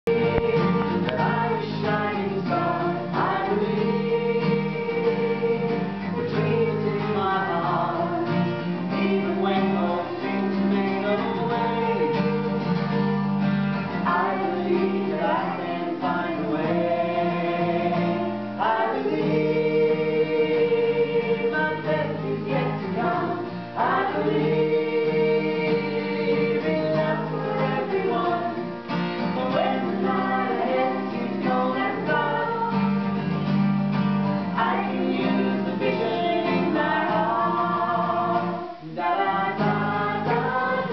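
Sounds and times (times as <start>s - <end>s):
voices singing: 0.0s - 33.6s, 34.2s - 40.9s
acoustic guitar: 0.0s - 40.9s.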